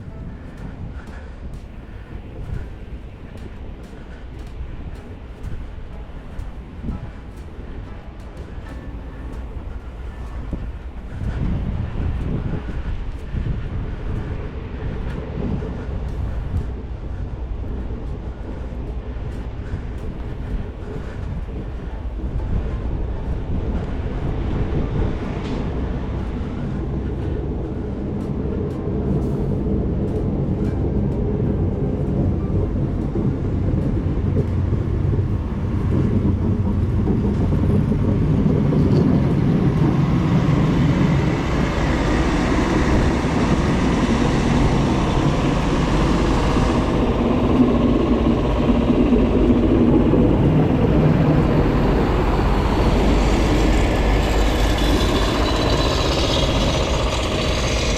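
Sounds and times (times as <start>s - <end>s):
passing traffic rumble: 0.0s - 57.9s.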